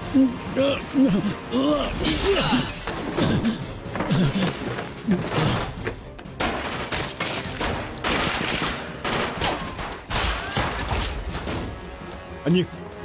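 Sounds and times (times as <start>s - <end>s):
tense action music: 0.0s - 13.0s.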